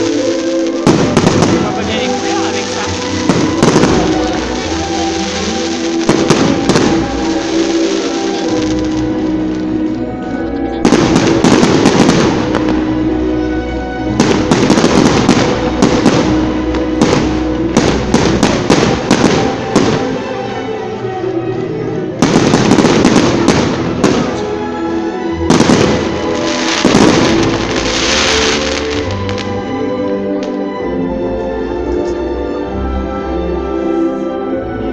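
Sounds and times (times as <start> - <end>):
fireworks bangs and crackles: 0.0 - 20.7, 22.1 - 29.7
background music: 0.0 - 34.9.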